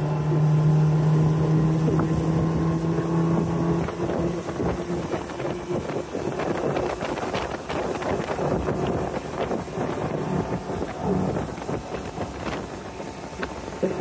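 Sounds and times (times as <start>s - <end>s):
boat motor running: 0.0s - 14.0s
wind buffeting microphone: 0.0s - 14.0s.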